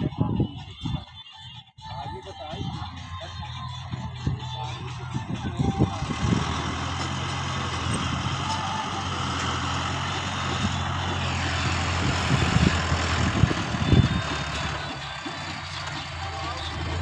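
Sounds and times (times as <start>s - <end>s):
tractor diesel engine running: 2.5s - 17.0s.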